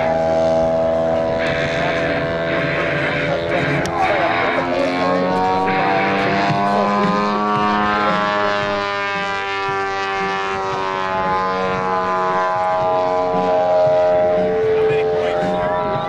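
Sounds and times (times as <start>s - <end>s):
model plane engine buzzing: 0.0s - 16.0s.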